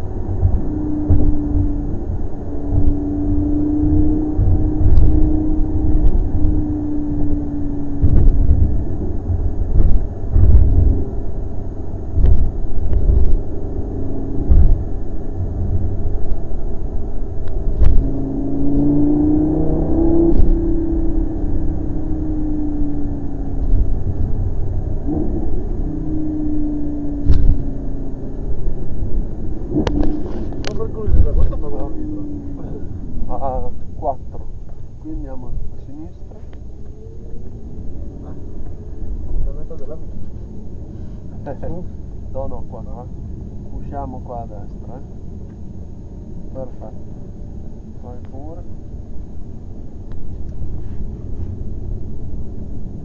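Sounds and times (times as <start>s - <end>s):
car engine accelerating: 0.0s - 53.0s
road noise rumble: 0.0s - 53.0s.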